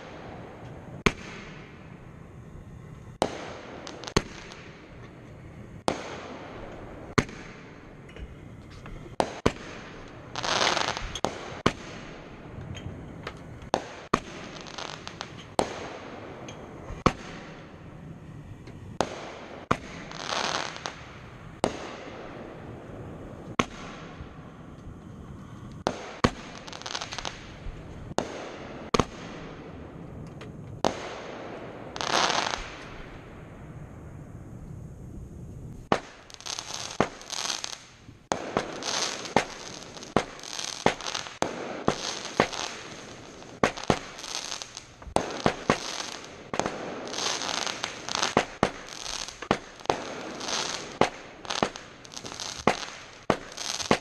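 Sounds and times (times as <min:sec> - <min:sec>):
firework bangs: 0:00.0 - 0:18.2, 0:18.8 - 0:24.8, 0:25.4 - 0:34.2, 0:35.6 - 0:54.0
firework hissing and crackle: 0:00.0 - 0:54.0.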